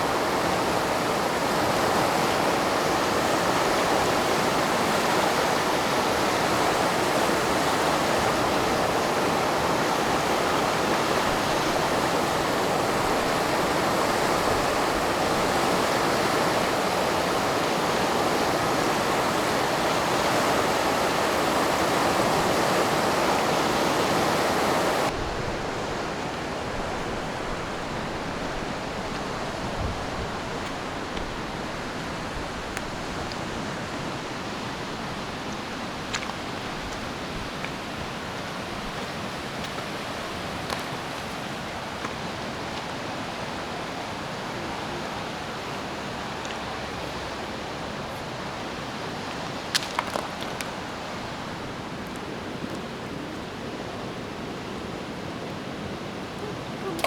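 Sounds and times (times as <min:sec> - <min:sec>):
mountain river rushing: 0:00.0 - 0:57.0.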